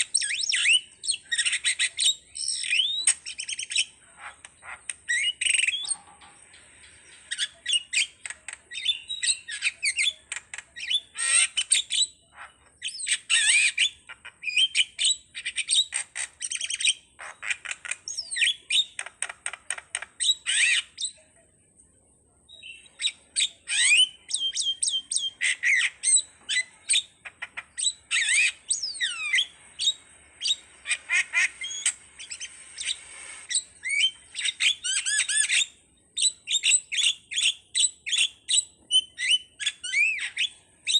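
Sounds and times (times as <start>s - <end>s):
starling singing chirps and whistles: 0.0s - 21.2s, 22.5s - 40.9s.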